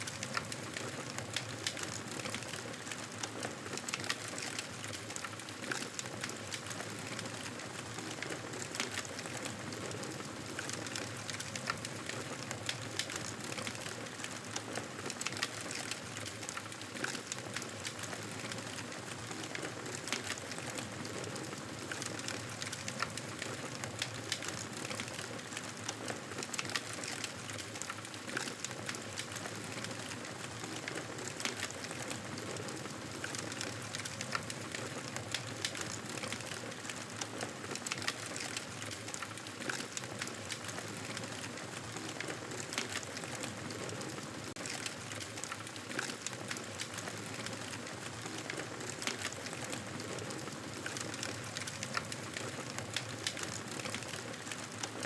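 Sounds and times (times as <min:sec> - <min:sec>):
campfire crackling and popping: 0:00.0 - 0:09.5, 0:10.5 - 0:55.0.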